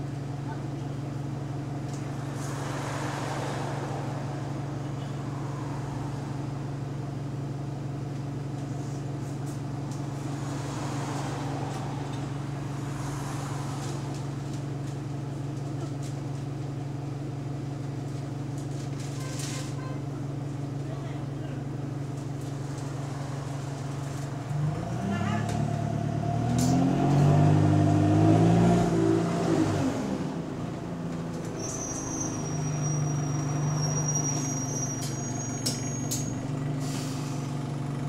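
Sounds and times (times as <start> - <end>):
bus engine droning: 0.0 - 38.0
road noise: 0.0 - 38.0.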